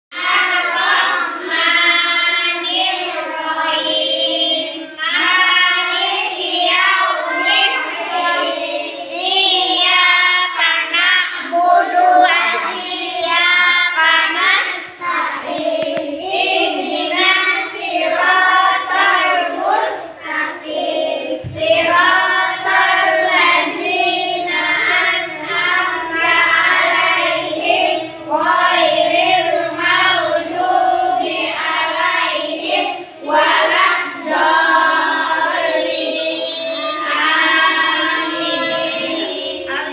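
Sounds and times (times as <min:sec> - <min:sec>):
children chanting in unison: 0:00.1 - 0:39.9.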